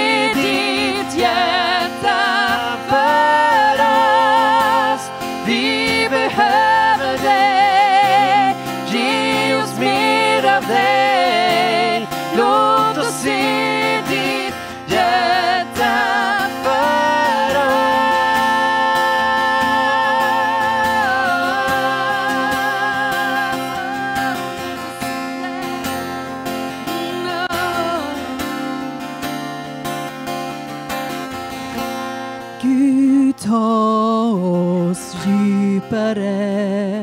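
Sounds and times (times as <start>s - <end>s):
person singing with vibrato: 0.0s - 29.4s, 32.5s - 37.0s
acoustic guitar: 0.0s - 37.0s.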